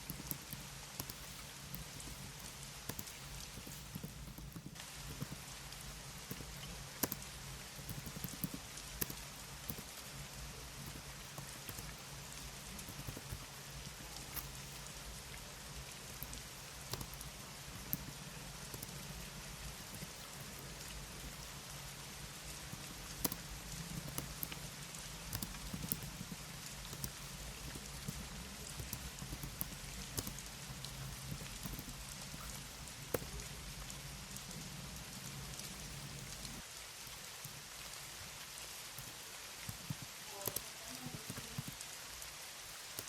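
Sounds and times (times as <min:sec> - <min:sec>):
keyboard keys typing: 0:00.0 - 0:36.6, 0:38.9 - 0:41.8
steady rain: 0:00.0 - 0:43.0.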